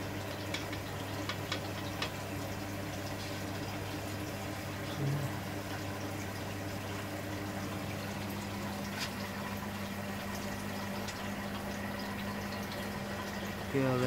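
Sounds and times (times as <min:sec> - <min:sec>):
air bubbles and churning water: 0:00.0 - 0:14.0
aquarium pump humming: 0:00.0 - 0:14.0.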